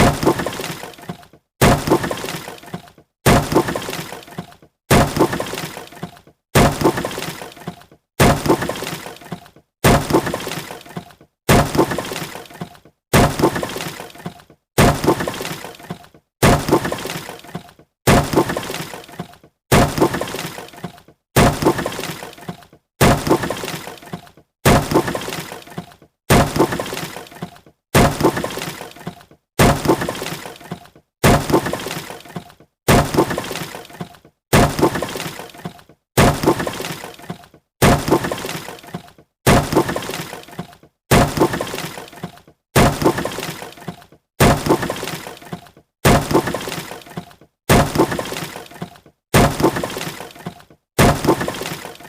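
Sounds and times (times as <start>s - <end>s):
wood smashing and splintering: 0.0s - 52.0s.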